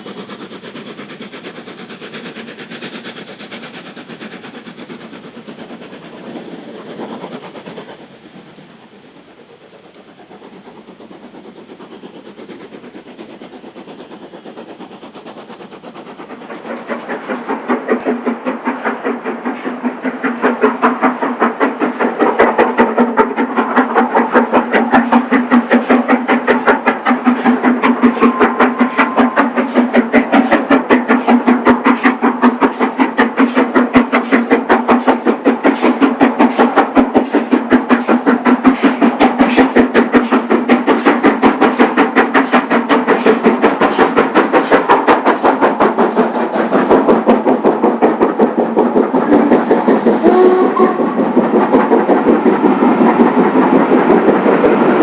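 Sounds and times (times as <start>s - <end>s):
steam locomotive exhaust beating: 0.0s - 55.0s.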